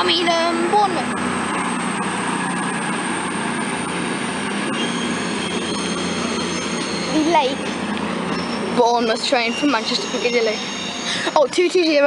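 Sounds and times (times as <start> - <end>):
diesel train engine rumble: 0.0 - 12.0
high-pitched squealing: 0.0 - 12.0
train wheels on rails: 0.0 - 12.0.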